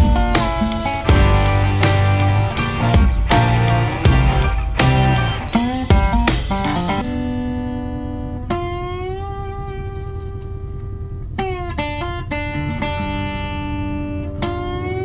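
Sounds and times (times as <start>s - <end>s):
guitar playing chords: 0.0s - 15.0s.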